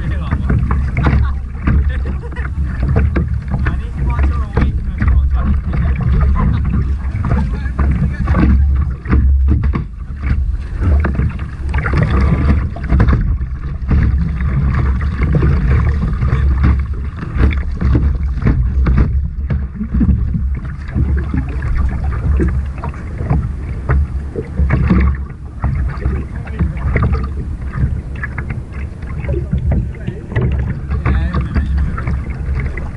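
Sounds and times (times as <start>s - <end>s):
water splashing against kayak: 0.0s - 32.9s
wind buffeting microphone: 0.0s - 32.9s.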